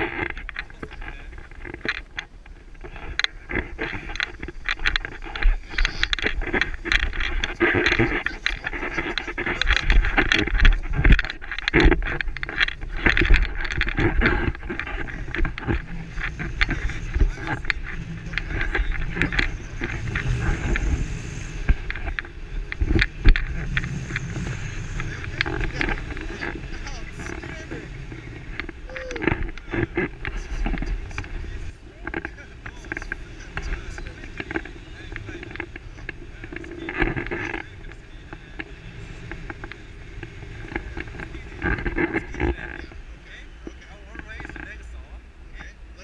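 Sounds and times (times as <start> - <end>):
scattered knocks: 0.0 - 43.0
wind rumbling on microphone: 0.0 - 46.0.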